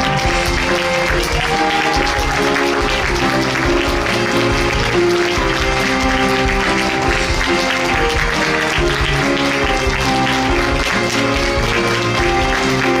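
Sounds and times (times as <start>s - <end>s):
audience applause: 0.0s - 13.0s
live band playing: 0.0s - 13.0s.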